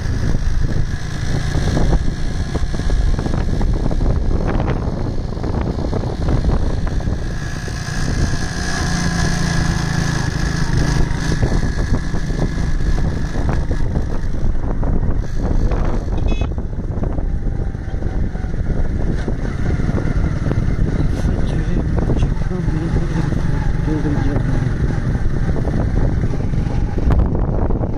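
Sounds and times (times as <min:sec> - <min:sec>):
vehicle engine: 0:00.0 - 0:27.9
wind buffeting microphone: 0:00.0 - 0:27.9.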